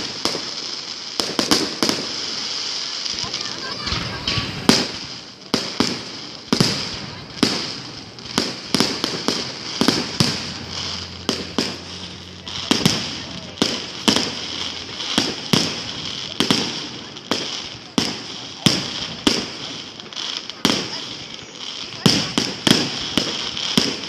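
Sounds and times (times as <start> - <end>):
fireworks and firecrackers banging: 0.0 - 24.0
steady hiss: 0.0 - 24.0.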